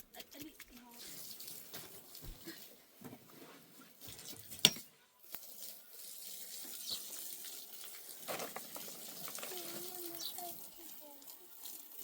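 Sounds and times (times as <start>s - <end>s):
water running: 0.0s - 3.0s, 3.7s - 12.0s.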